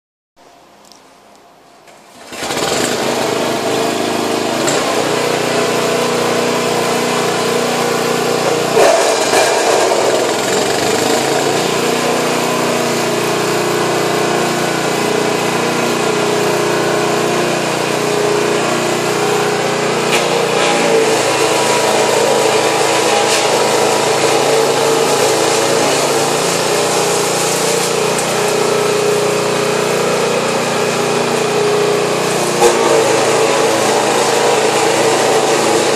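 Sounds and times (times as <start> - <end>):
chipper-shredder engine running: 1.9 - 35.9.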